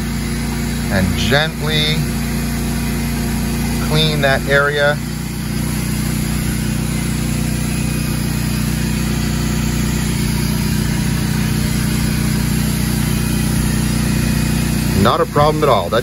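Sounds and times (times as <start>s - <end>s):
engine droning with hiss: 0.0s - 16.0s.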